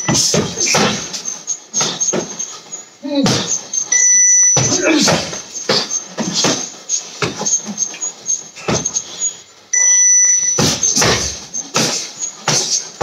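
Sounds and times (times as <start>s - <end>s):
electronic timer beep: 0.0s - 6.7s, 7.4s - 12.4s.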